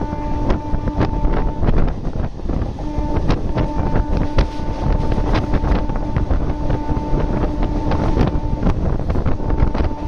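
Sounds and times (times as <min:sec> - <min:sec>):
train wheels clattering on rails: 0:00.0 - 0:10.0
wind rushing over microphone: 0:00.0 - 0:10.0.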